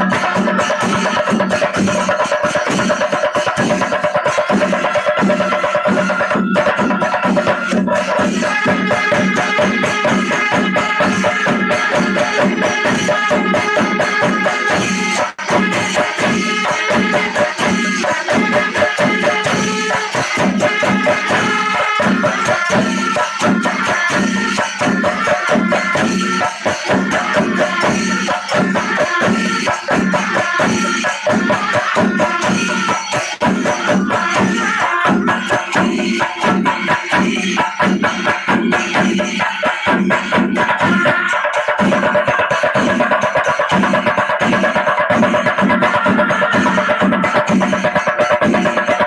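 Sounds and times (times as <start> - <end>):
cymbals jingling: 0.0 - 49.0
drums beaten fast with sticks: 0.0 - 49.0.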